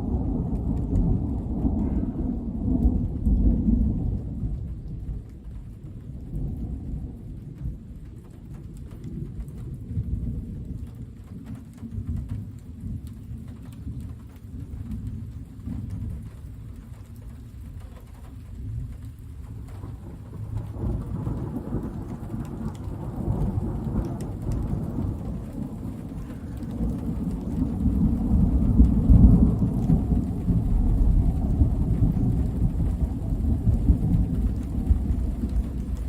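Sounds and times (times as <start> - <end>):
rolling thunder: 0.0 - 16.5, 18.5 - 36.0
rain falling: 0.0 - 36.0.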